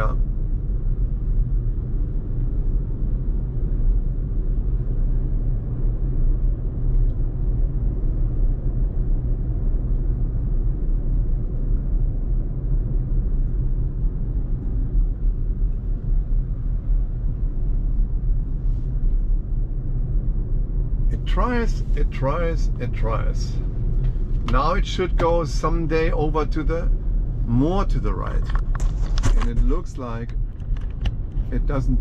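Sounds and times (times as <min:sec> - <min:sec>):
road and tyre rumble: 0:00.0 - 0:32.0.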